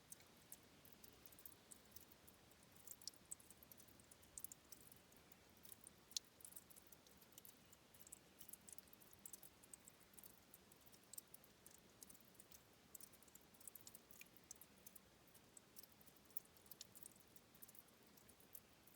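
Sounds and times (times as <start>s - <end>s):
trickling spring water: 0.0s - 18.9s.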